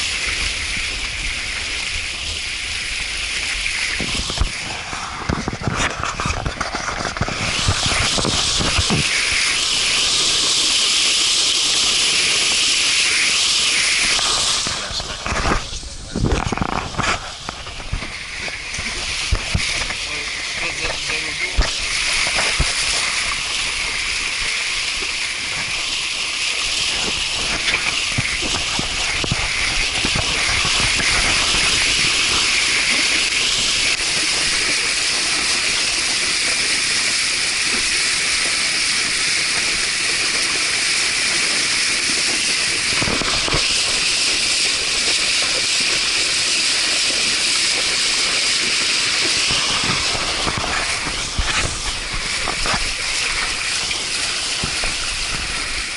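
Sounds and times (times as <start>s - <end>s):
rushing water of a stream: 0.0s - 55.9s.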